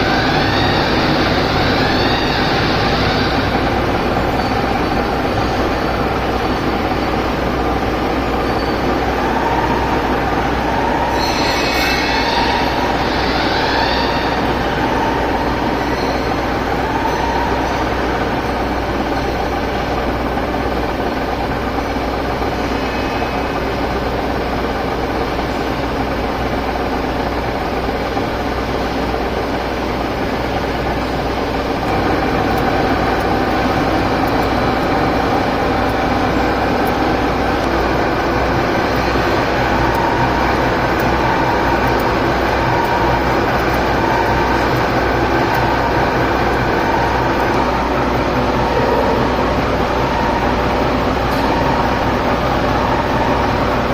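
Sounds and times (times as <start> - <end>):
short rising whines: 0.0 - 25.6, 29.6 - 53.9
milling machine hum and whine: 0.0 - 53.9.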